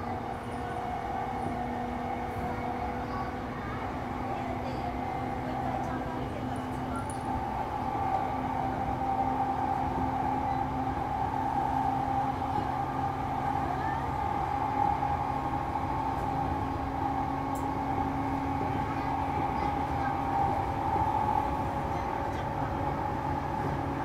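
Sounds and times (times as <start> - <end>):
electric train motor hum: 0.0 - 24.0
wheels rumbling on rails: 0.0 - 24.0.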